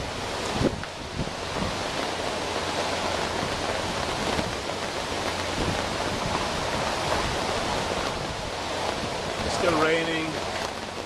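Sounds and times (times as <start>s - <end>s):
heavy rain falling: 0.0s - 11.0s
hurricane wind howling: 0.0s - 11.0s.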